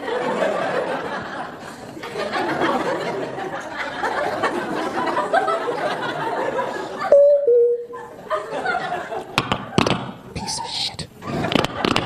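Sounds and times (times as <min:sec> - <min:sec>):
audience laughing: 0:00.0 - 0:07.2, 0:07.8 - 0:12.0.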